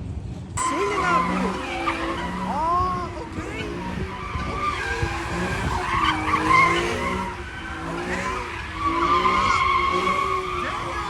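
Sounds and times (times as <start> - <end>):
car engine revving: 0.6 - 11.0
car tyres squealing: 0.6 - 11.0.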